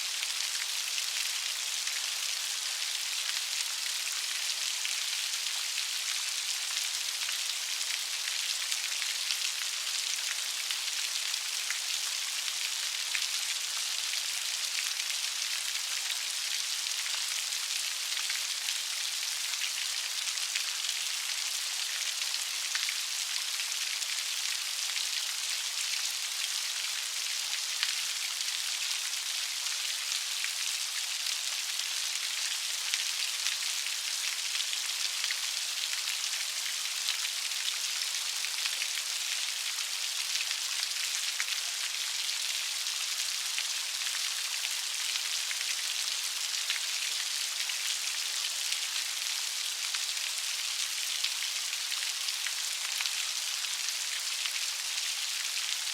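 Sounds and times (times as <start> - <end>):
light rain falling: 0.0 - 55.9.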